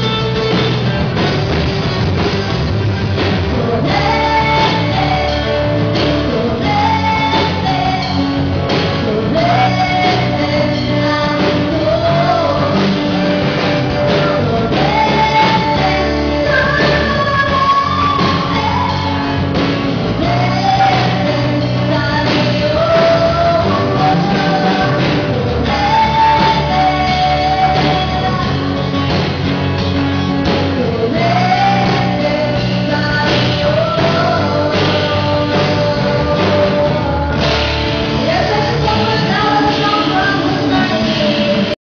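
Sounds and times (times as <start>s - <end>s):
live pop-rock band: 0.0s - 41.8s
woman singing: 3.3s - 29.3s, 30.5s - 41.8s.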